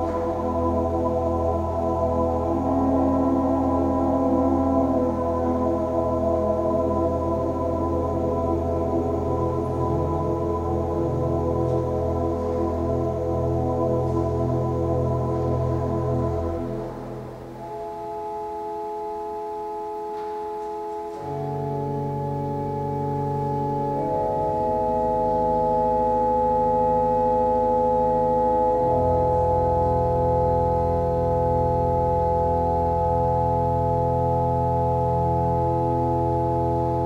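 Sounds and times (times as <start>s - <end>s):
pipe organ chords: 0.0s - 37.0s.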